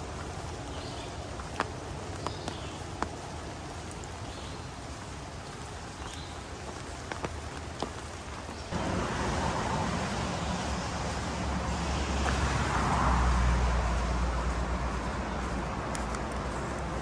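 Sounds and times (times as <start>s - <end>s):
highway traffic roar: 0.0s - 17.0s.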